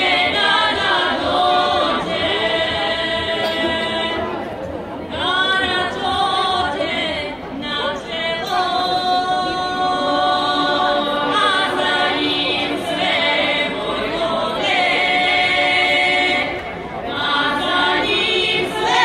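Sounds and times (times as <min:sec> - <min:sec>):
women singing unaccompanied: 0:00.0 - 0:19.0.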